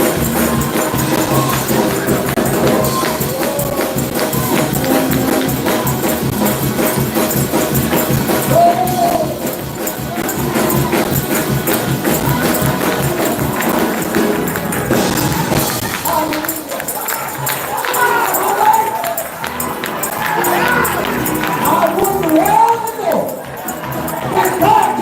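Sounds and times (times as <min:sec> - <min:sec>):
sustained instrumental tones: 0:00.0 - 0:25.0
tambourine beat: 0:00.0 - 0:25.0.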